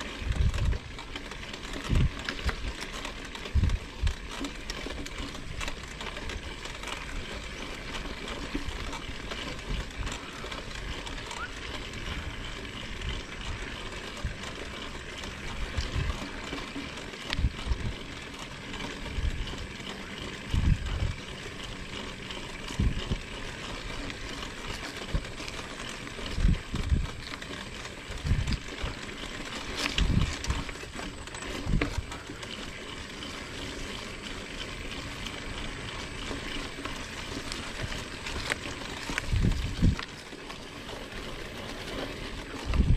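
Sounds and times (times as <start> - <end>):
bike tyres rustling and rattling: 0.0 - 42.9.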